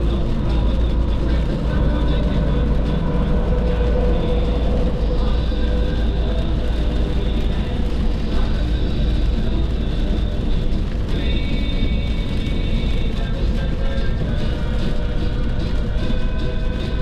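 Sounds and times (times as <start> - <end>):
car road and engine rumble: 0.0 - 17.0
faint music: 0.0 - 17.0.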